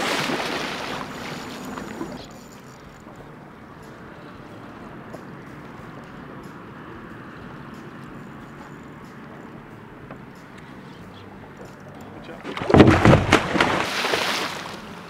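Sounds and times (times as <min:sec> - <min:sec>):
fish splashing and thrashing: 0:00.0 - 0:10.4, 0:11.8 - 0:15.0.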